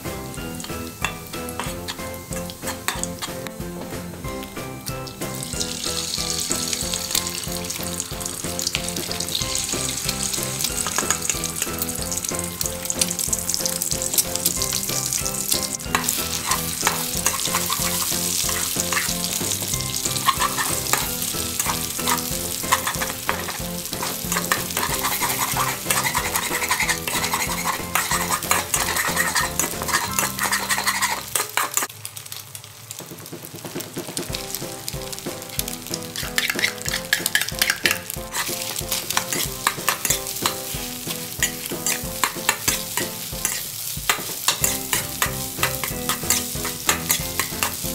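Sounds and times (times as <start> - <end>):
food sizzling in a pan: 0.0 - 47.9
spatula stirring and scraping: 0.5 - 4.0, 5.5 - 31.9, 34.2 - 47.9.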